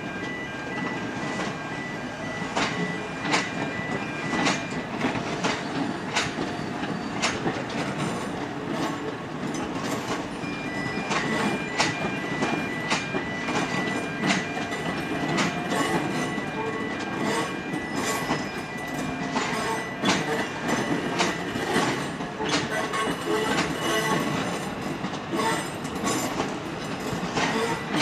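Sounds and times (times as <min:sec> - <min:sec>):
train rolling noise: 0:00.0 - 0:28.0
train wheels clacking over rail joints: 0:02.6 - 0:10.4, 0:11.0 - 0:28.0.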